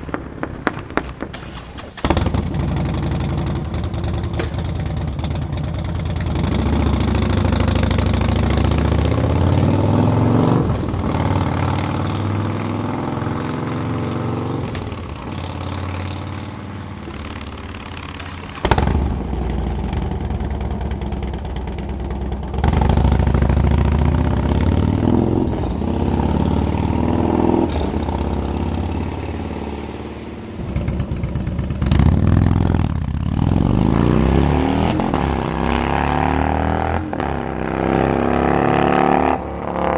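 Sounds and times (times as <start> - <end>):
motorcycle engine idling and revving: 0.7 - 39.9.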